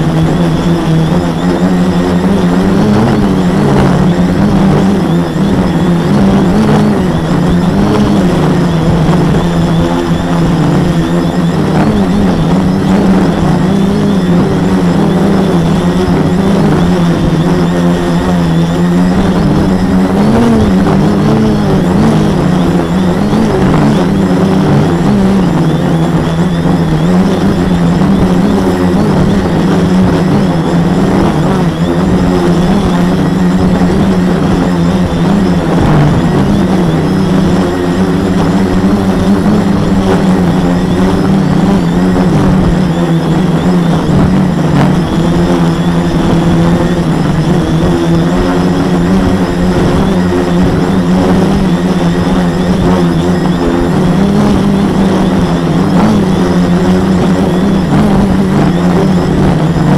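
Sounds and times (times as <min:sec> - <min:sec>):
drone propellers buzzing: 0:00.0 - 0:59.9.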